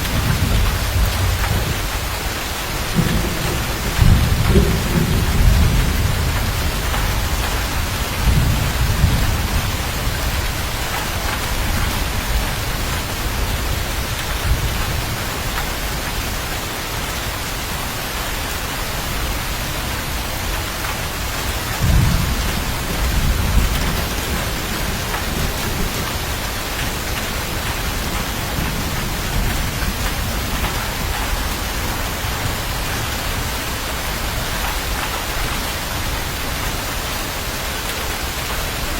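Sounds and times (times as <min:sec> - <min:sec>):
rolling thunder: 0:00.0 - 0:16.3, 0:20.1 - 0:35.6
heavy rain hissing: 0:00.0 - 0:38.9.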